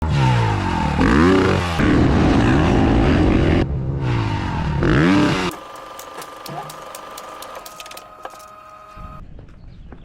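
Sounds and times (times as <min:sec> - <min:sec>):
dirt bike engine revving: 0:00.0 - 0:09.2.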